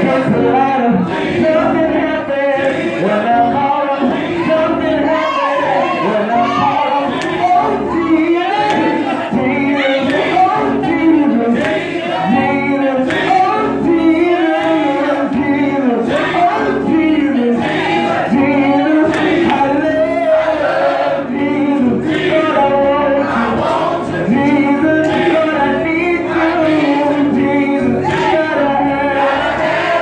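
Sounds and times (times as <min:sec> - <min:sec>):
man singing gospel song: 0:00.0 - 0:30.0.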